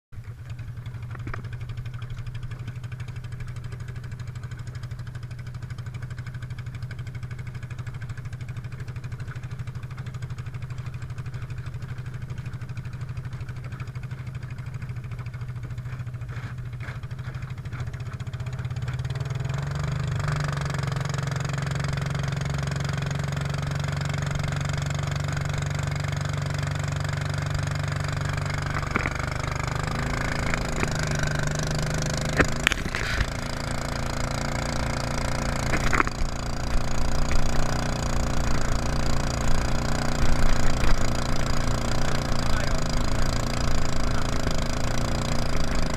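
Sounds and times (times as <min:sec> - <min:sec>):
boat motor running: 0:00.2 - 0:45.9.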